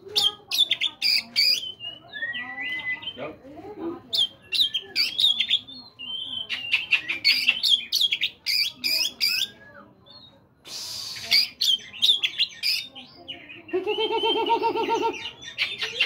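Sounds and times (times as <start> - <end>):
songbird whistling and warbling: 0.2 - 3.2, 4.1 - 16.0.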